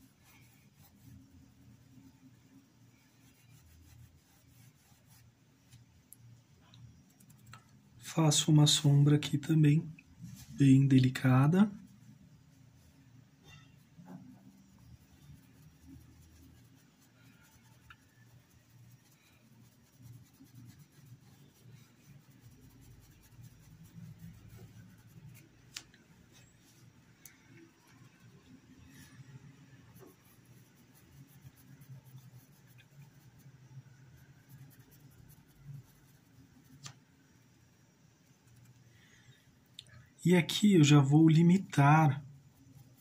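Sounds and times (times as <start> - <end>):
paintbrush scratching on fabric: 0.0 - 6.0, 6.9 - 9.0, 10.2 - 39.4, 40.4 - 43.0.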